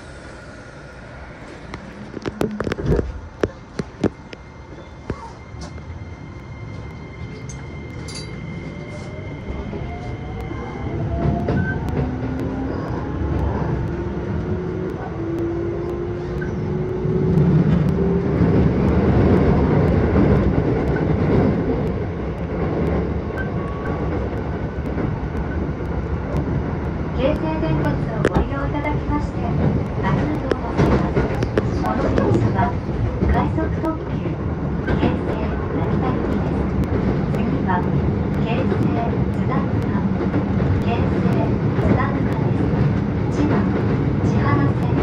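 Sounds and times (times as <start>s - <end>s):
wheels rumbling on rail: 0.0s - 45.0s.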